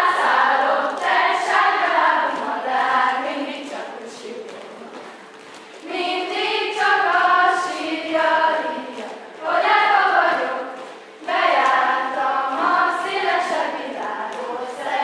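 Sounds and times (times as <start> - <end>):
girls choir singing: 0.0 - 5.2, 5.8 - 15.0.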